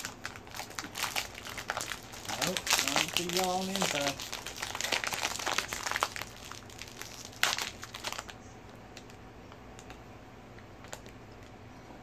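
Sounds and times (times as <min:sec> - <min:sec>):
plastic candy wrapper crinkling: 0:00.0 - 0:09.2, 0:10.8 - 0:11.5.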